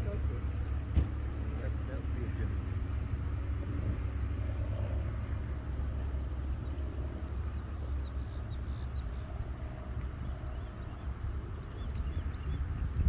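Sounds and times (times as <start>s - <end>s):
wind buffeting microphone: 2.4s - 13.0s.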